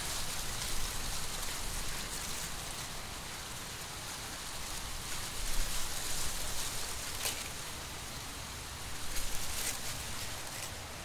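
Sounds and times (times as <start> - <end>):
leaves crackling: 0.0 - 11.0
wind rustling dry corn leaves: 0.0 - 11.0.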